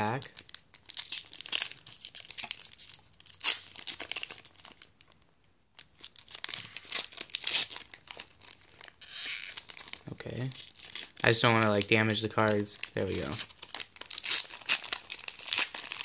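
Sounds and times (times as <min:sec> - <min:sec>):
foil wrapper crinkling and tearing: 0:00.0 - 0:05.2, 0:05.8 - 0:16.0.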